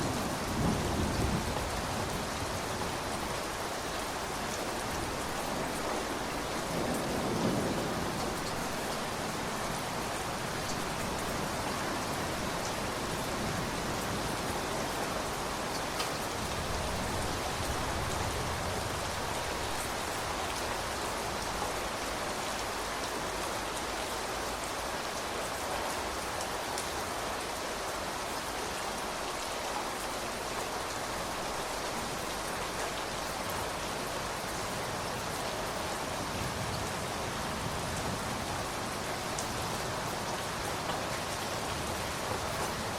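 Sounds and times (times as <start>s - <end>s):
steady rain hissing: 0.0s - 42.9s.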